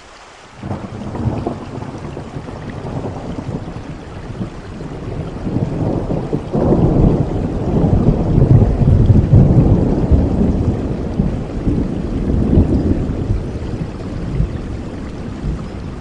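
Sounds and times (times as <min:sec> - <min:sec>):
steady rain: 0:00.0 - 0:16.0
thunder rumbling: 0:00.6 - 0:16.0.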